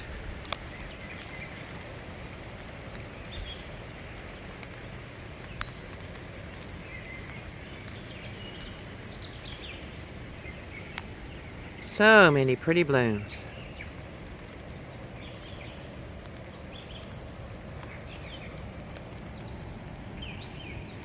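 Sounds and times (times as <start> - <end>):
light rain falling: 0.0 - 21.0
sharp drip clicks: 0.0 - 21.0.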